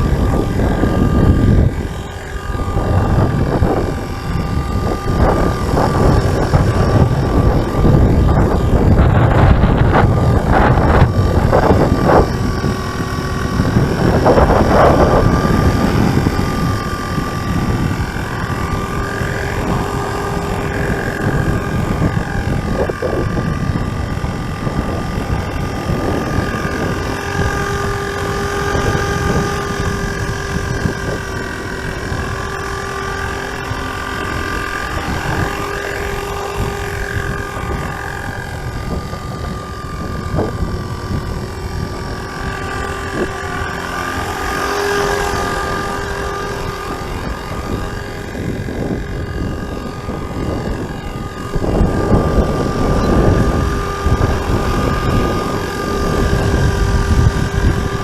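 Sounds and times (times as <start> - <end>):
rc helicopter rotor whine: 0.0 - 58.0
wind buffeting microphone: 0.0 - 58.0.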